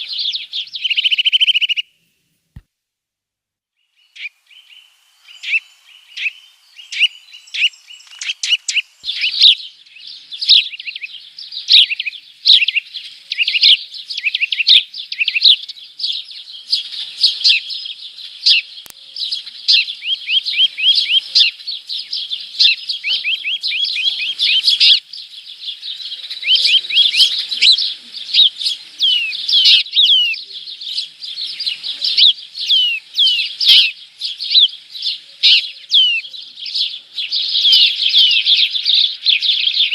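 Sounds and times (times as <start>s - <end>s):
small birds chirping: 0.0s - 2.1s, 3.7s - 39.9s.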